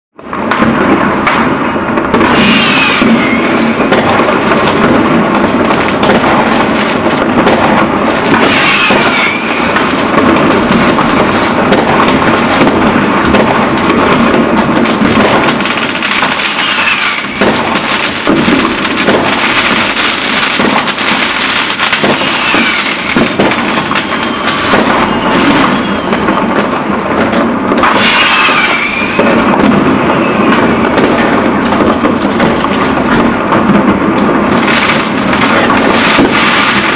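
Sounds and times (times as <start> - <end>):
firecrackers crackling and banging: 0.2 - 36.9
whistling fireworks squealing: 2.0 - 33.4, 34.4 - 36.9.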